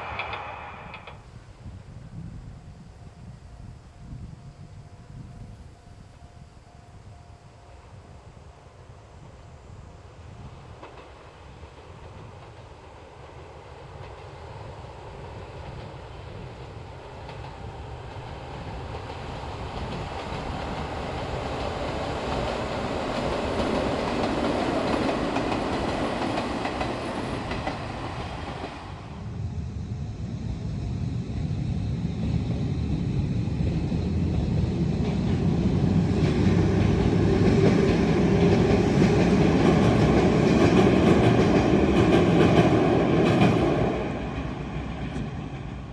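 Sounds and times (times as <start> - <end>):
electric train rumbling: 0.0 - 45.9.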